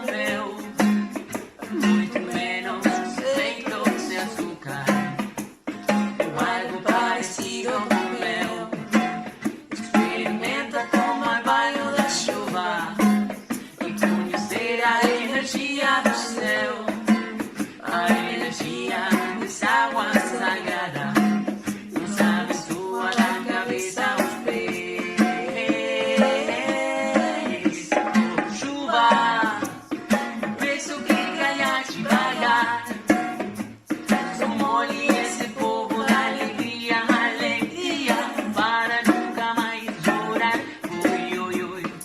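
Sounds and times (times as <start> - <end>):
person singing: 0.0 - 5.4, 6.1 - 42.0
plucked acoustic guitar: 0.0 - 42.0.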